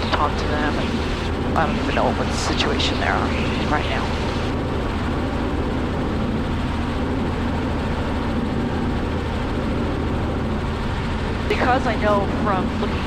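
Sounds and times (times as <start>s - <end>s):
helicopter engine and rotor hum: 0.0s - 13.0s.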